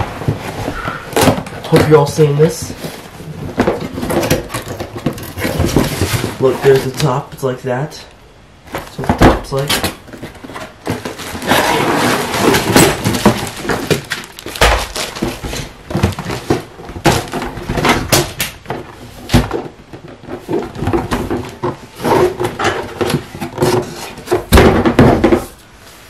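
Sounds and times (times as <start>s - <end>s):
cardboard and plastic wrap rustling: 0.0s - 7.7s, 8.6s - 26.0s.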